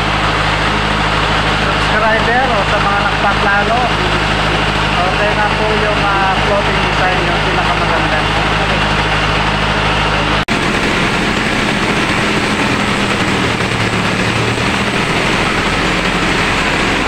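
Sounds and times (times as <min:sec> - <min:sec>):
rice mill running: 0:00.0 - 0:17.0.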